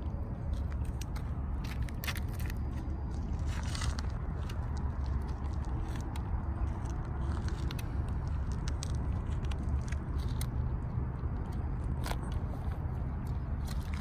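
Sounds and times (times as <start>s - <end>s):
small clicks and rustles: 0.4s - 14.0s.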